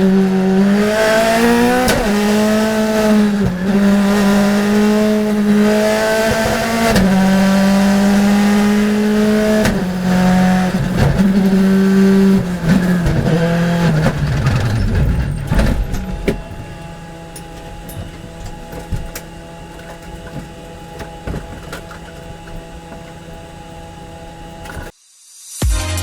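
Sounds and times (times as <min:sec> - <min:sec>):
race car engine running hard: 0:00.0 - 0:24.9.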